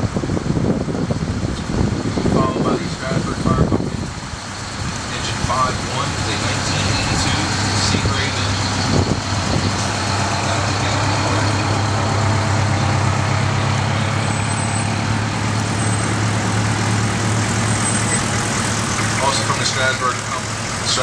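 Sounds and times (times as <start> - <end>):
diesel engines rumbling: 0.0 - 21.0.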